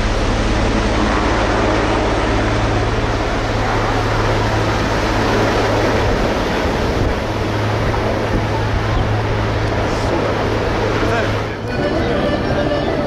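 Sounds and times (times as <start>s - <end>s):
helicopter flying low past: 0.0s - 13.0s.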